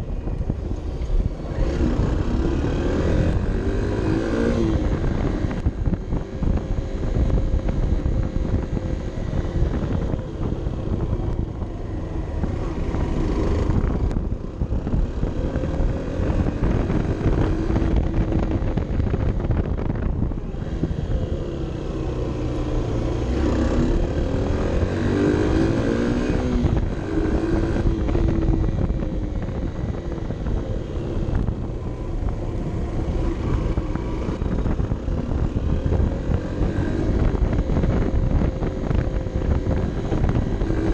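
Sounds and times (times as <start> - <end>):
motorcycle engine: 0.0 - 40.9
wind noise: 0.0 - 40.9.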